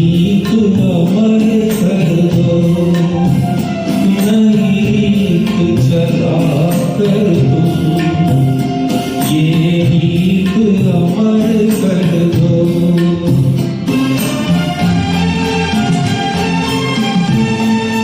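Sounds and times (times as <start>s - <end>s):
melody over percussion beat: 0.0s - 18.0s.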